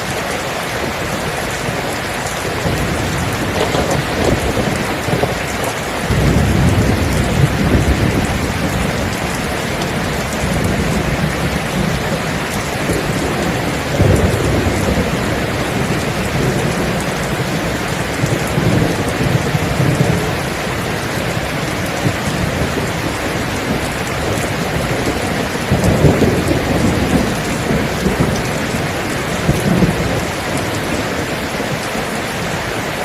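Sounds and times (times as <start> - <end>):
steady rain falling: 0.0 - 33.0
distant thunder rumbling: 0.2 - 32.5.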